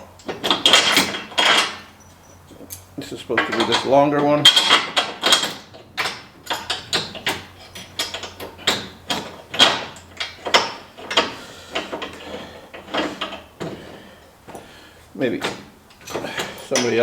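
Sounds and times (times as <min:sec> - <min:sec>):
metal bolts clinking: 0:00.0 - 0:17.0.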